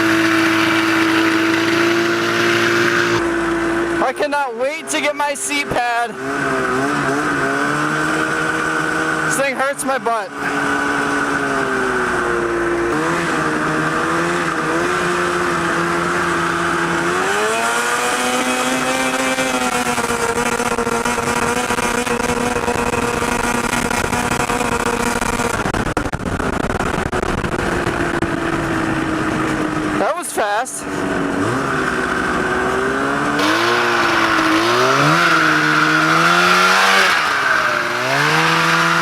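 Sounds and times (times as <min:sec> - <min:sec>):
two-stroke engine revving: 0:00.0 - 0:39.0.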